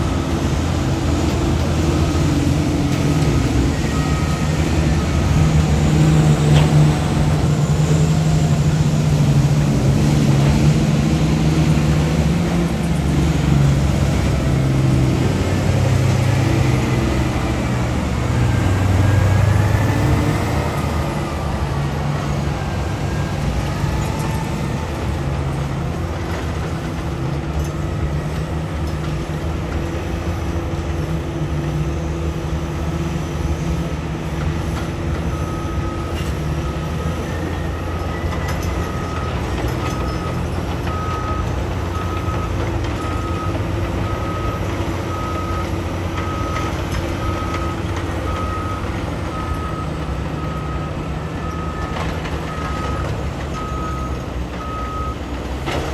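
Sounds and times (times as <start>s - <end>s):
reversing alarm beeping: 0.0s - 29.4s, 32.6s - 55.4s
heavy diesel engines running: 0.0s - 55.9s.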